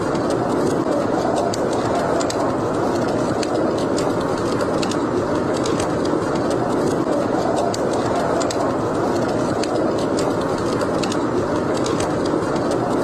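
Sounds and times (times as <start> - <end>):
blizzard wind rushing: 0.0 - 13.0
fire pops and snaps: 0.0 - 13.0
wood fire crackling: 0.0 - 13.0.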